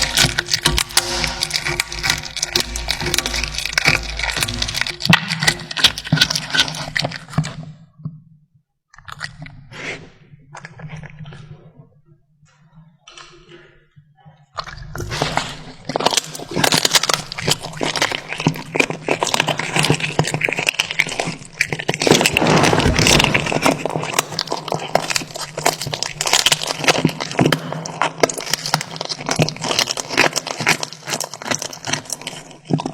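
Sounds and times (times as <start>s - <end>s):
cat chewing and crunching food: 0.0s - 8.0s, 9.0s - 11.9s, 14.2s - 32.9s.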